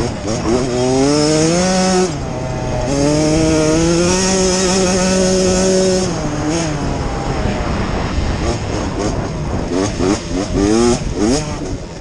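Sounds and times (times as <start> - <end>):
motorcycle engine at high revs: 0.0 - 12.0.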